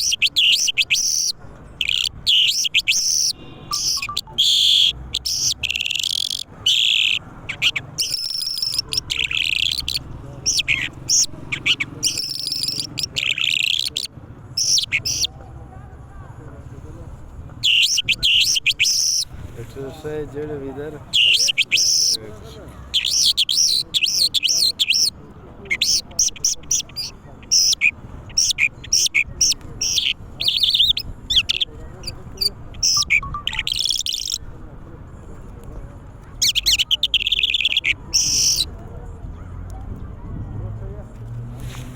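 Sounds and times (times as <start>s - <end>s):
songbird singing: 0.0s - 15.6s, 17.6s - 20.3s, 21.0s - 34.6s, 36.4s - 38.8s.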